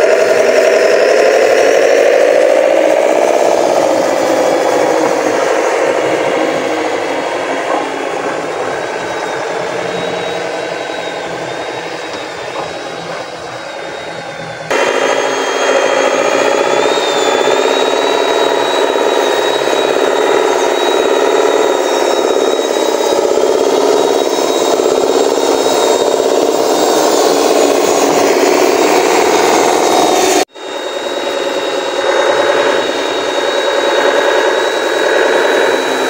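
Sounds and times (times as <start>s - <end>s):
high gearbox whine: 0.0s - 36.0s
model truck motor drone: 0.0s - 36.0s.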